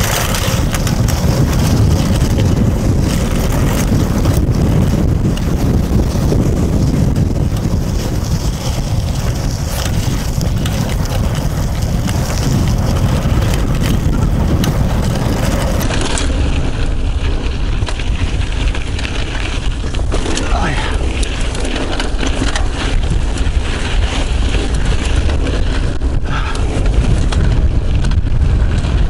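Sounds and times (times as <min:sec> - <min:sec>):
bike knocks and rattles: 0:00.0 - 0:29.0
bike tyres rumbling on dirt: 0:00.0 - 0:29.0
wind buffeting microphone: 0:00.0 - 0:29.0.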